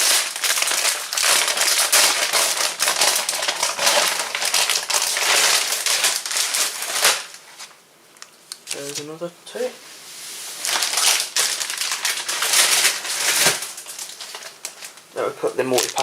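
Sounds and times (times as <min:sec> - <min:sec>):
plastic packaging crinkling: 0:00.0 - 0:09.1, 0:10.5 - 0:16.0.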